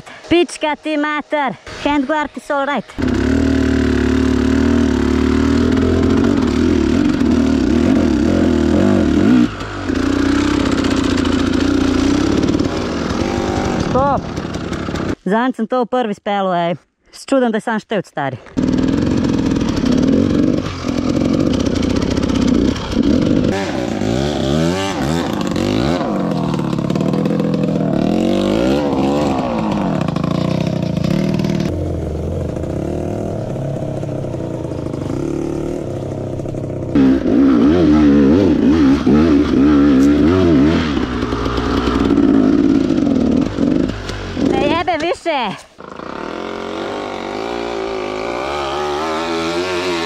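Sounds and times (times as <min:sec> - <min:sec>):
dirt bike engine revving: 0:02.9 - 0:15.2, 0:18.5 - 0:50.0.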